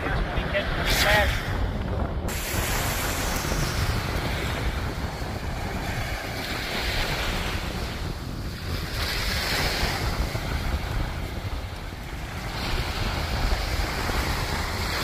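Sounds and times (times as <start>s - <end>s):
ocean surf on sandy beach: 0.0s - 15.0s
wind buffeting microphone: 0.0s - 15.0s.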